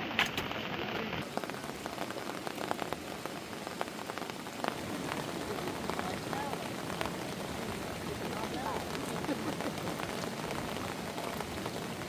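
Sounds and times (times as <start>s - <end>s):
heavy rain falling: 0.0s - 12.0s
raindrops ticking on a surface: 0.0s - 12.0s.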